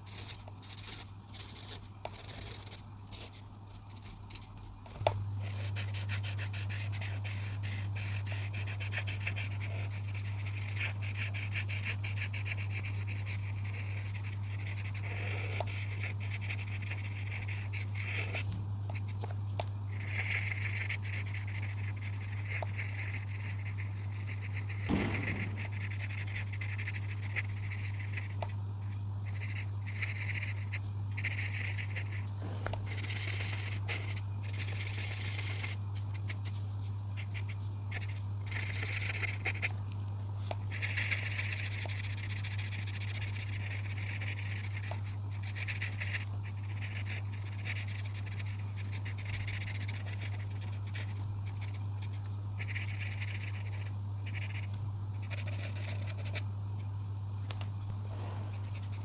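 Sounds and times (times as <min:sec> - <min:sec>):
steady low hum: 0:00.0 - 0:59.0
coloring tool scratching paper: 0:00.1 - 0:39.7, 0:40.4 - 0:56.5, 0:58.1 - 0:59.0.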